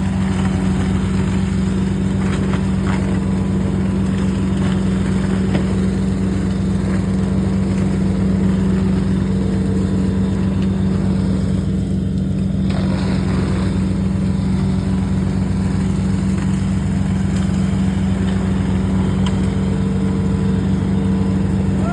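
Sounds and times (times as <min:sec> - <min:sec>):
mulcher running: 0:00.0 - 0:21.9
tractor engine running: 0:00.0 - 0:21.9.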